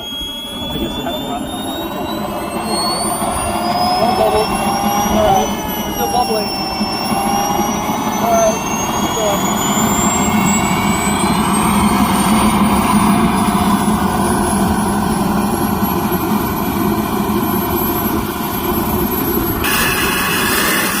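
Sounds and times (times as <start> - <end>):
jet turbine engine whine: 0.0 - 21.0.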